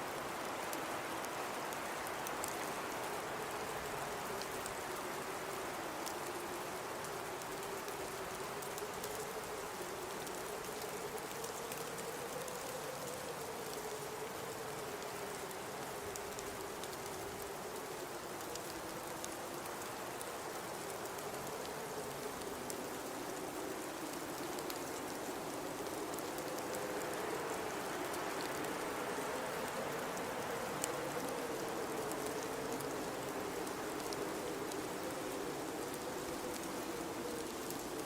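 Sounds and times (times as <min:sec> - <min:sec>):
blizzard wind whistling: 0:00.0 - 0:38.0
hiss of wind-driven snow: 0:00.0 - 0:38.0
faint ticks: 0:00.2 - 0:38.0.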